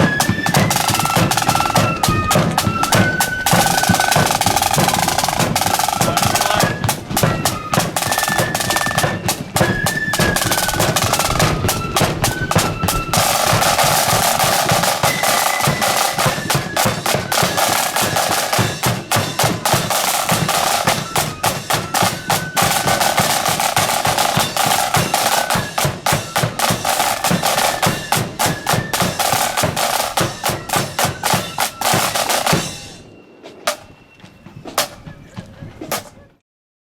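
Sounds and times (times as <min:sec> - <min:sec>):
snare drums rolling: 0:00.0 - 0:34.0, 0:34.6 - 0:35.2, 0:35.8 - 0:36.2
marching band melody: 0:00.0 - 0:36.2.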